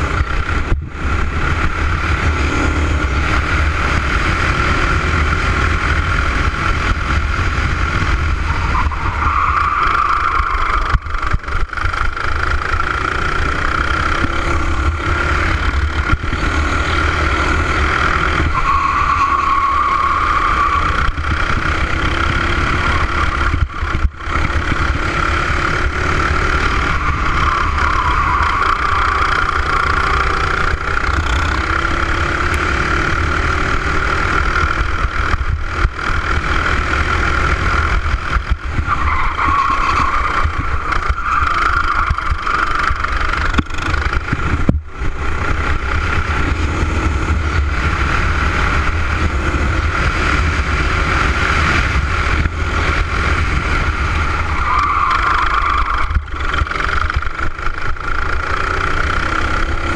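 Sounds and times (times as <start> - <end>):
kart engine at high revs: 0.0 - 59.9.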